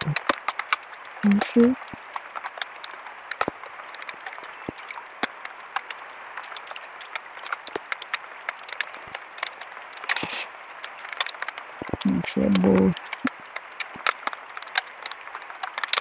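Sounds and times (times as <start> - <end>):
light rain on lake water: 0.0 - 16.0
raindrops tapping: 0.0 - 16.0.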